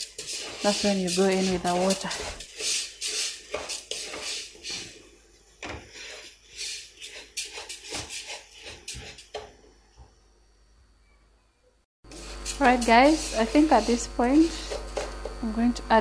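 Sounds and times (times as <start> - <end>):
wooden spoon stirring rice in pot: 0.0 - 9.5, 12.1 - 15.7.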